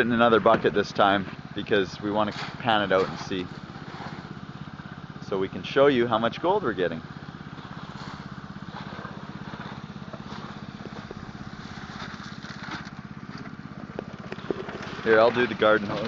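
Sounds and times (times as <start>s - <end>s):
water pump engine running: 0.0s - 16.0s.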